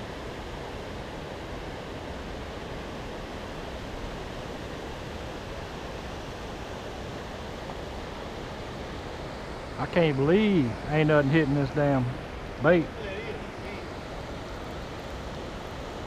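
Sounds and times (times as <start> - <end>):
water rushing from spillway: 0.0 - 16.0.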